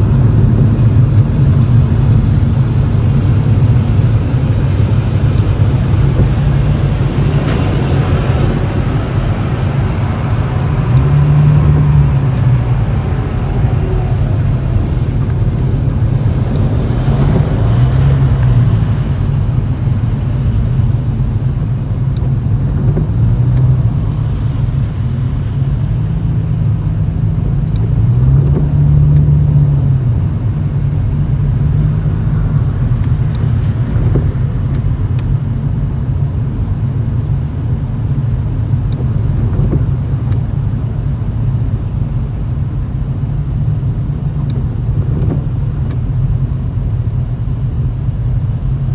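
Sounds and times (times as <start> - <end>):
car exhaust drone: 0.0 - 48.9.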